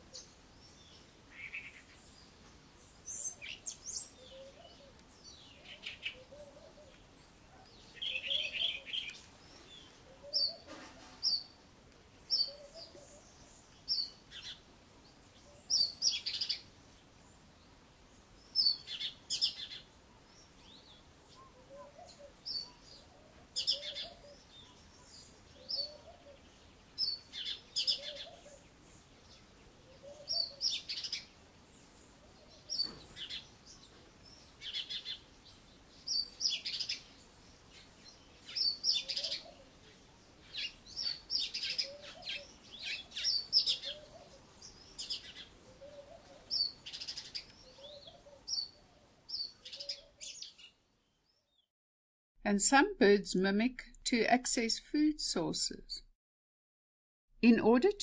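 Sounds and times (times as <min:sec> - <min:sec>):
bird singing mimicry song: 0:00.1 - 0:07.0, 0:07.6 - 0:11.6, 0:12.2 - 0:16.7, 0:18.4 - 0:51.6.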